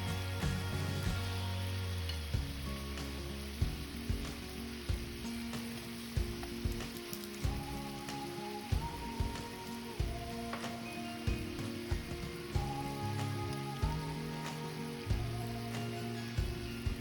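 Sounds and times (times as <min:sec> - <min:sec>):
chicken sizzling in a pan: 0:00.0 - 0:17.0
soft background music: 0:00.0 - 0:17.0.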